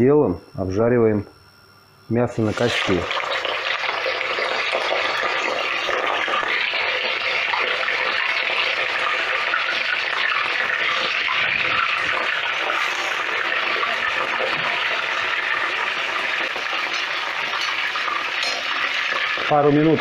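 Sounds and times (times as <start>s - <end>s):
meat sizzling in hot oil: 2.5s - 20.0s.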